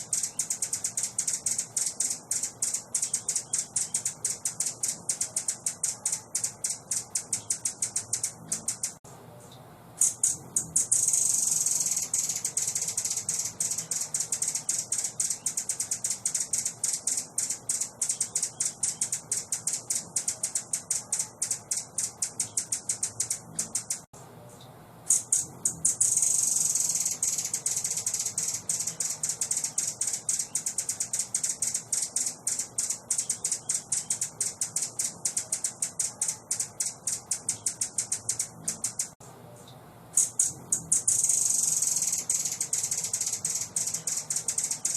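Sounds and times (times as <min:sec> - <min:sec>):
songbird rattling trill: 0:00.0 - 0:09.0, 0:10.0 - 0:24.1, 0:25.1 - 0:39.2, 0:40.2 - 0:44.9.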